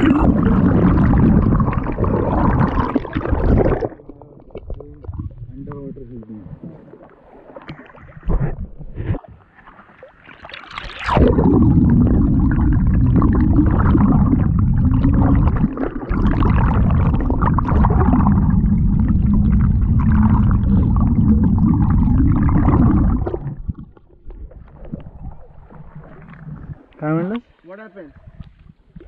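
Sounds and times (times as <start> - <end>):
underwater rush of water: 0.0 - 27.4
faint water sounds: 0.0 - 29.0.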